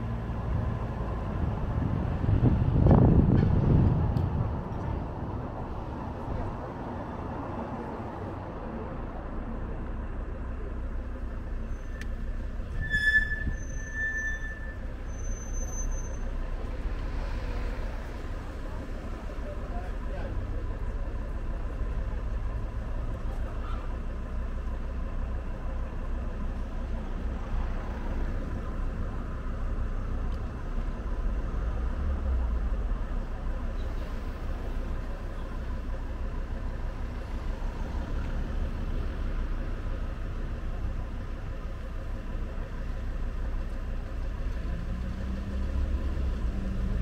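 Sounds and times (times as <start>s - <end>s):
engine hum: 0.0s - 47.0s
low rumble of road traffic: 0.0s - 47.0s.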